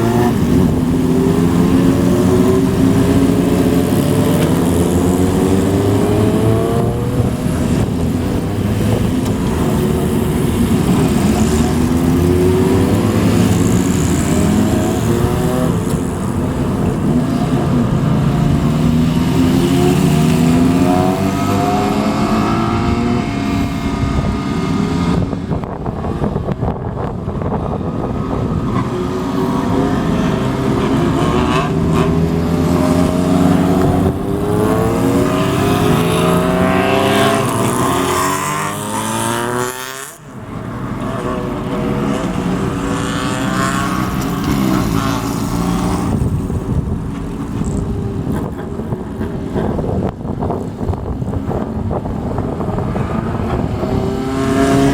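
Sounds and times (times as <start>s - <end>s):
motorcycles revving away: 0.0s - 54.9s.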